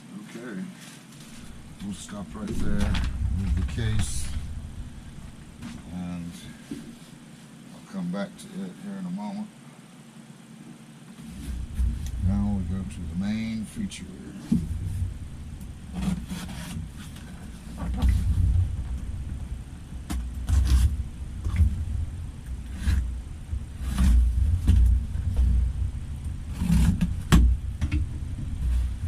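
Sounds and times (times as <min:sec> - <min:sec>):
cardboard rustling and scraping: 0:00.6 - 0:07.5, 0:11.2 - 0:29.0.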